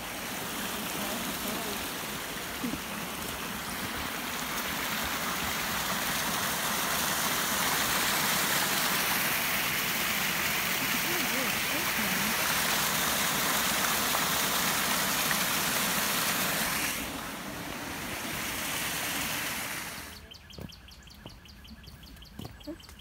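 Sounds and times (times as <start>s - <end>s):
creek cascading over rocks: 0.0s - 20.2s.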